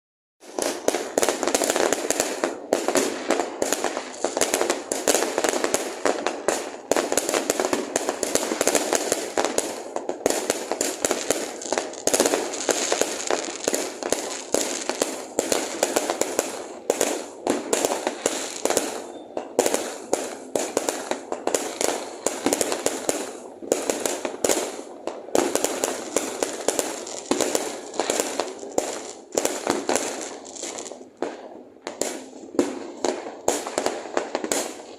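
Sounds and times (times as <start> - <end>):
fireworks bangs and crackles: 0.4 - 34.9.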